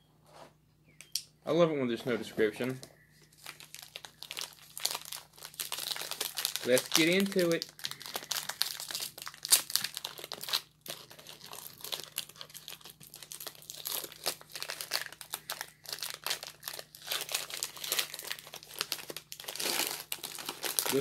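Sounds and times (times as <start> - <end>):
plastic wrapper crinkling: 2.4 - 21.0.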